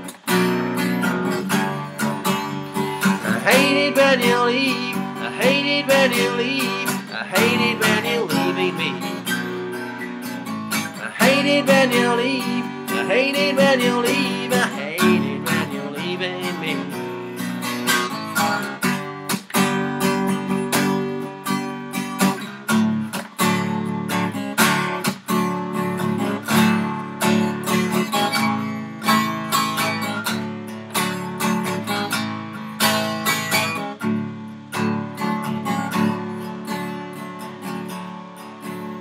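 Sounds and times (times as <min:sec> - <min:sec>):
acoustic guitar strumming chords: 0:00.0 - 0:39.0.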